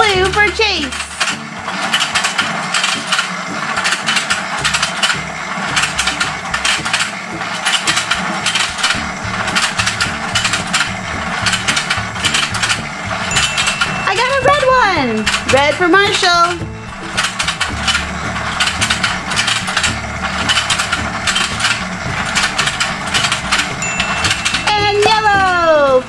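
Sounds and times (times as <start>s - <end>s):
toy motor clicking and clattering: 0.0s - 26.0s.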